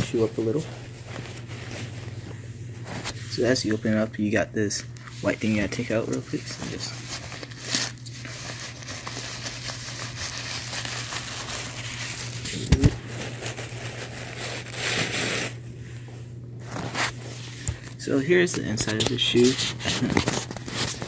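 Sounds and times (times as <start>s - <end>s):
paper crinkling rustle: 0.0s - 4.0s, 5.0s - 15.5s, 16.6s - 21.0s
steady low hum: 0.0s - 21.0s.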